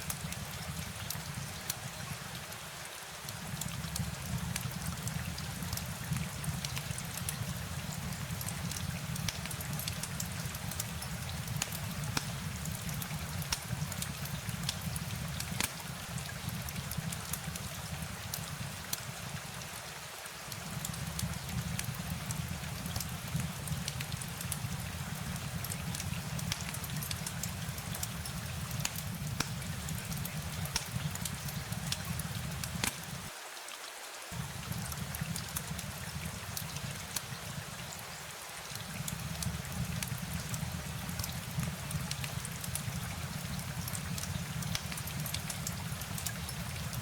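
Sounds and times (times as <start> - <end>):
rain drops ticking: 0.0 - 33.5, 34.2 - 47.0
low rain rumble: 0.0 - 47.0.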